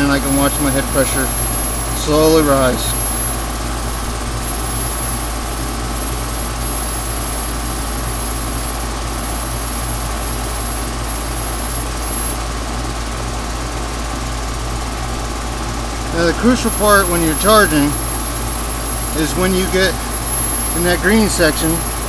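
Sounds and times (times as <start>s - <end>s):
compressor hum: 0.0s - 22.0s
condenser fan noise: 0.0s - 22.0s.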